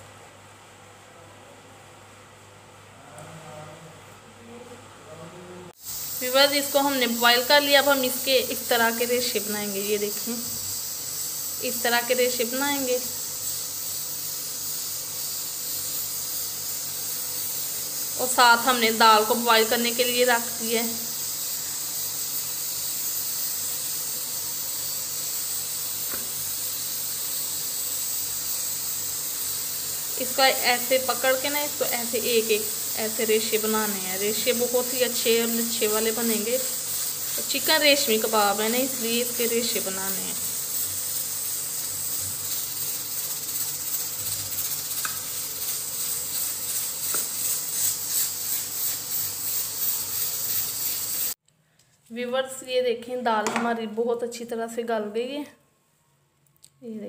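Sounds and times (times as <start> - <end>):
high-pitched hiss: 5.7 - 51.4.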